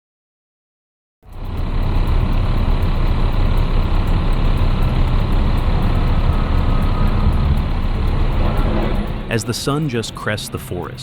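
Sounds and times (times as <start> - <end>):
faint regular ticking: 1.2 - 11.0
truck engine rumbling: 1.2 - 11.0.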